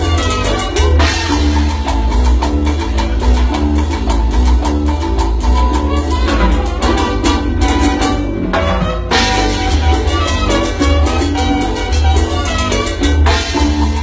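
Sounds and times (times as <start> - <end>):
tropical dance band playing: 0.0 - 14.0.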